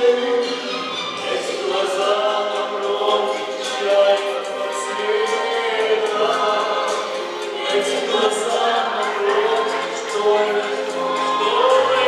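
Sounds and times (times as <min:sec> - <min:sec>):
retro dance music: 0:00.0 - 0:12.0
voices singing together: 0:00.0 - 0:12.0.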